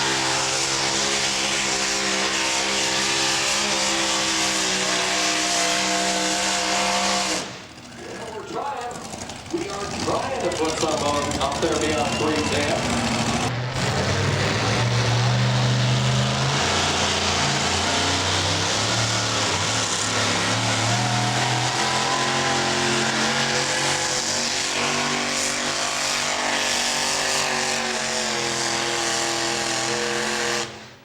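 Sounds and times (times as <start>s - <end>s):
truck engine running at full throttle: 0.0s - 31.0s.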